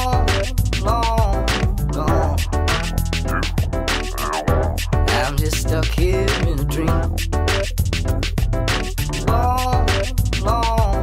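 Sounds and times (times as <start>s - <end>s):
hip hop beat with heavy bass: 0.0s - 11.0s.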